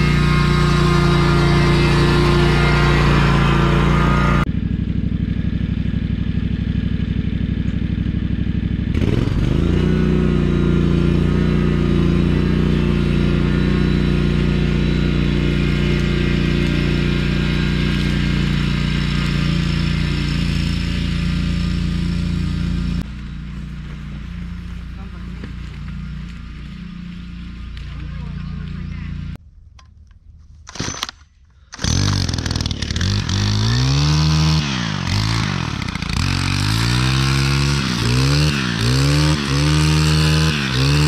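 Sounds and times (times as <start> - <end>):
mower engine running: 0.0 - 29.4, 30.7 - 41.0.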